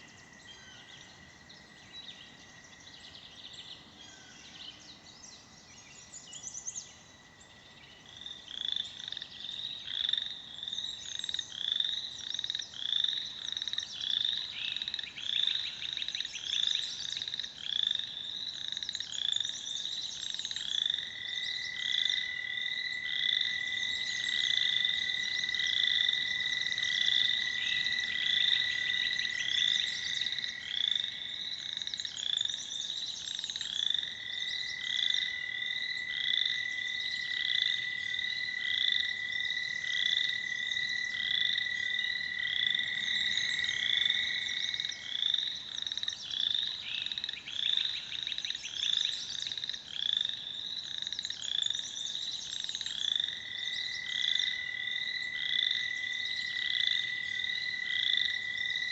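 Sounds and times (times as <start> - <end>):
frogs calling in short pulsed trills: 8.0 - 58.9.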